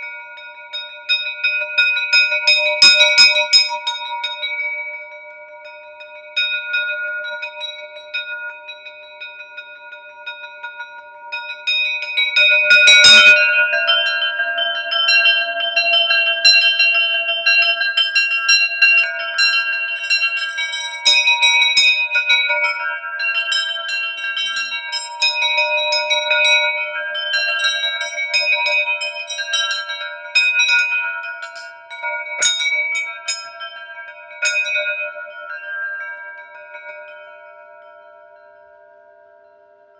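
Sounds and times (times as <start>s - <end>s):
metal chimes ringing: 0.0s - 39.9s.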